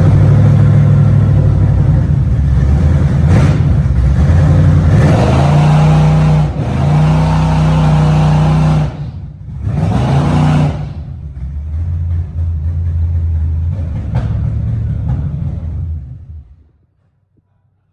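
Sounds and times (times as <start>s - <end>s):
car engine revving: 0.0s - 16.6s.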